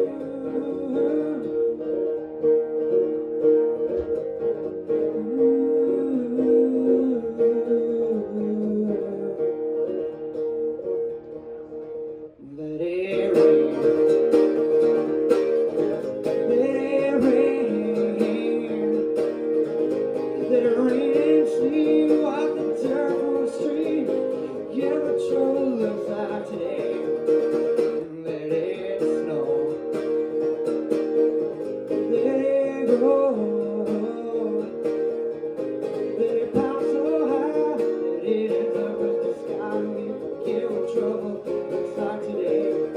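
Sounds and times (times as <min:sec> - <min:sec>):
man singing: 0:00.0 - 0:02.5, 0:04.9 - 0:10.5, 0:12.4 - 0:30.5, 0:31.4 - 0:42.9
acoustic guitar blues: 0:00.0 - 0:42.9.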